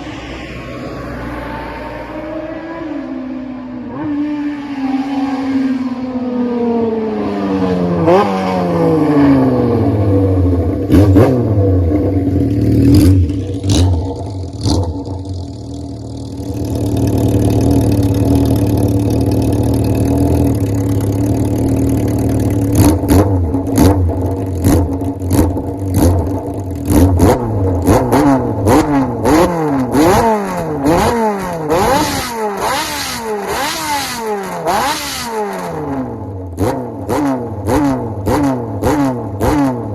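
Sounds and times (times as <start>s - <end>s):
motorcycle engine revving: 2.1s - 39.9s.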